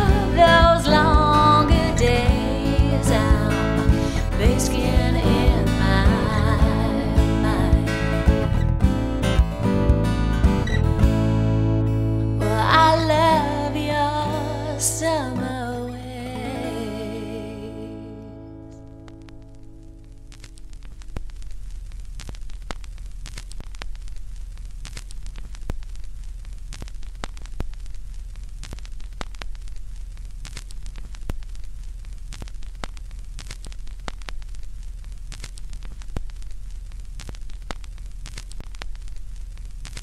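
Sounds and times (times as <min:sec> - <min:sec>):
sharp clicks and pops: 0:00.0 - 0:11.5, 0:18.7 - 0:40.0
crackling static: 0:00.0 - 0:40.0
low hum: 0:00.0 - 0:40.0.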